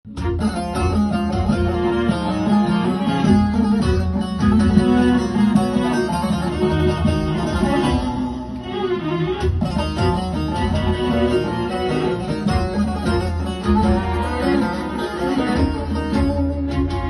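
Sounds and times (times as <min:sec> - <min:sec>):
music with strong bass: 0:00.0 - 0:17.0
plucked lute melody: 0:00.1 - 0:17.0.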